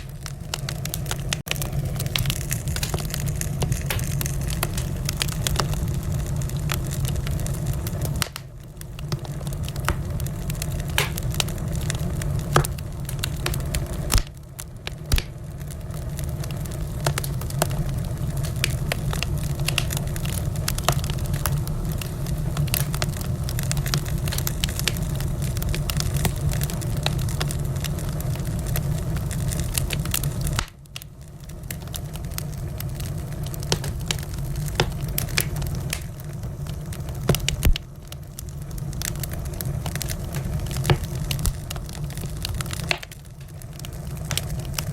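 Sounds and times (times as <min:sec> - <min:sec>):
low roar of fire: 0:00.0 - 0:44.9
wood fire crackling: 0:00.0 - 0:44.9.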